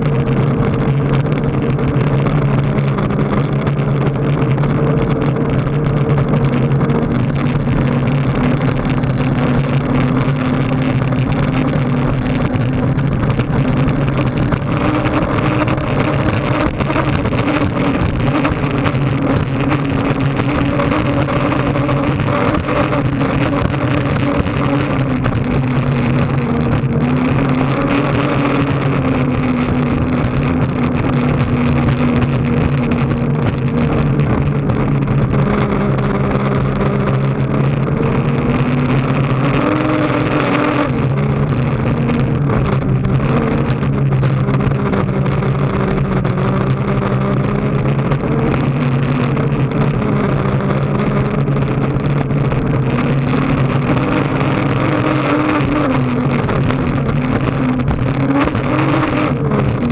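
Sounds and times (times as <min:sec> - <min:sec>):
rush of wind and water: 0:00.0 - 0:59.9
turbine engine drone: 0:00.0 - 0:59.9.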